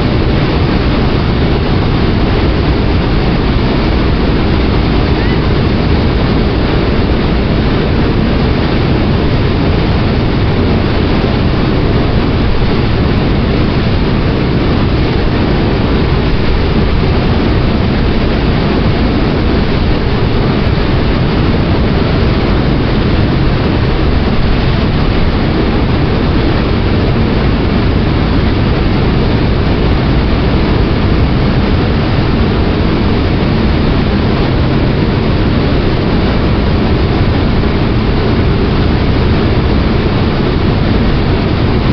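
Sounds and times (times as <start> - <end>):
water rushing: 0.0 - 41.9
wind: 0.0 - 41.9.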